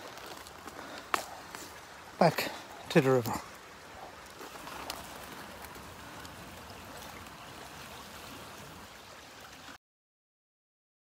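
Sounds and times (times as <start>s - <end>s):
fast-flowing river rushing: 0.0s - 9.8s.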